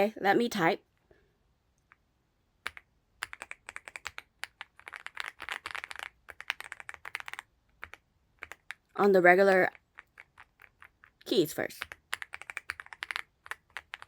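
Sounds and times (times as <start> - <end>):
mechanical keyboard typing: 2.6 - 14.0.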